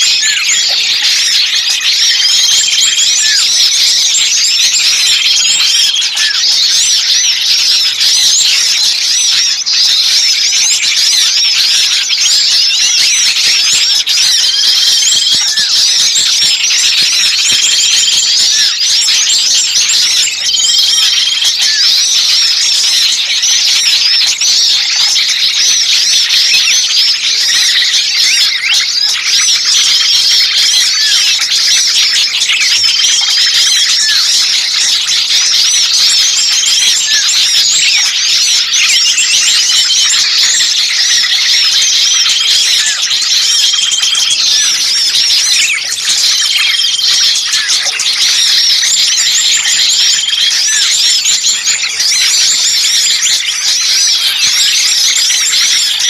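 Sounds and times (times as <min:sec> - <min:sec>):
small songbirds chirping and trilling: 0:00.0 - 0:56.0.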